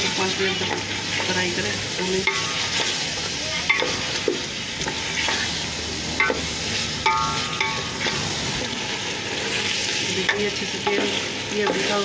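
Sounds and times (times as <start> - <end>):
food sizzling in a metal pot: 0.0 - 12.0.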